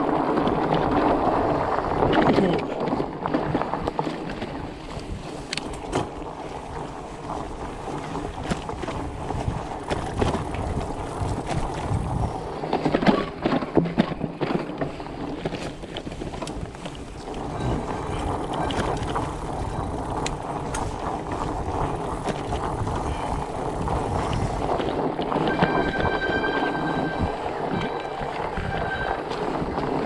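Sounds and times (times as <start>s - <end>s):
bike clicks and rattles: 0.0s - 30.0s
bike riding dirt trail: 0.0s - 30.0s
wind buffeting microphone: 0.0s - 30.0s.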